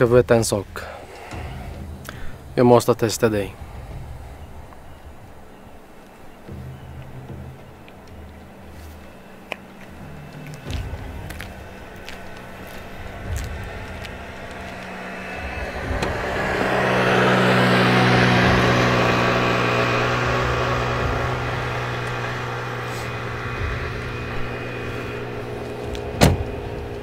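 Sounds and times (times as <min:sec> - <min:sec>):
car passing: 0:00.0 - 0:27.0
low engine hum: 0:00.0 - 0:27.0.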